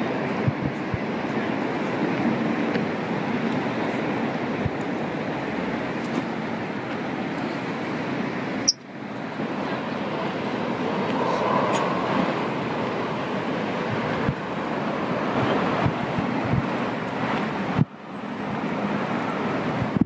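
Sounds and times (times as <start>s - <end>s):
distant traffic: 0.0s - 20.0s
wind on microphone: 0.0s - 20.0s.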